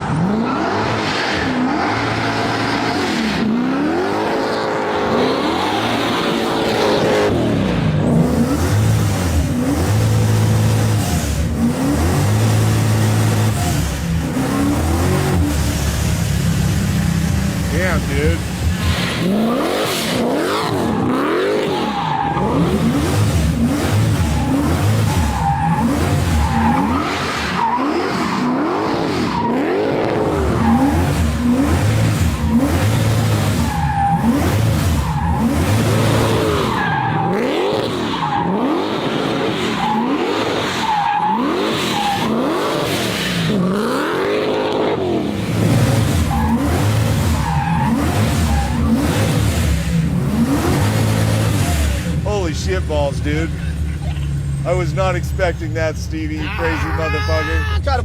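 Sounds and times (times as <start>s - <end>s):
car engine revving: 0.0s - 58.0s
tyres skidding and squealing: 0.0s - 58.0s.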